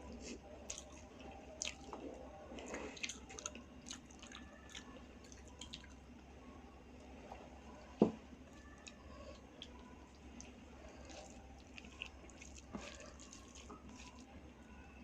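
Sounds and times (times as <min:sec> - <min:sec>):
wet chewing and mixing food: 0:00.1 - 0:15.0.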